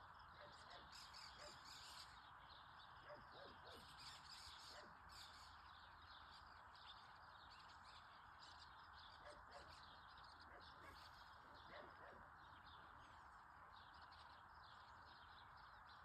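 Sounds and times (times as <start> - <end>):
faint bird calls: 0.0 - 16.0.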